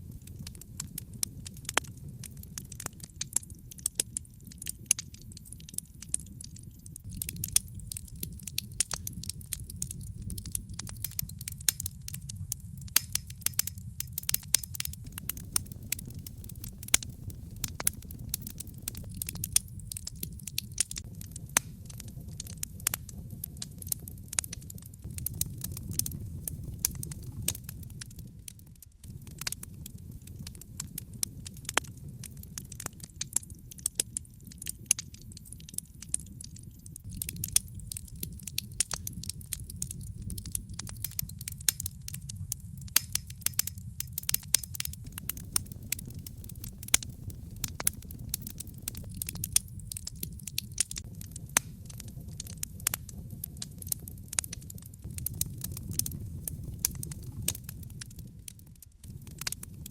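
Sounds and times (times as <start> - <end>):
logs crackling and popping: 0.0 - 59.9
low rumble of flames: 0.0 - 59.9.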